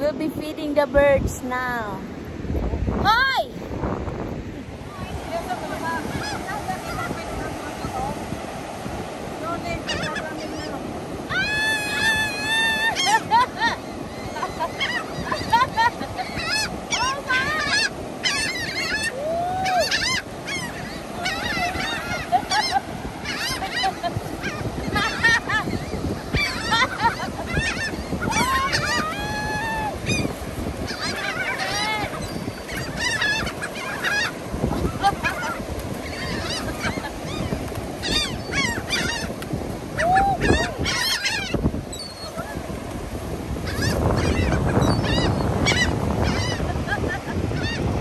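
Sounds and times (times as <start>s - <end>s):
gulls squawking: 5.3s - 8.8s, 9.4s - 48.0s
seagulls calling: 5.3s - 48.0s.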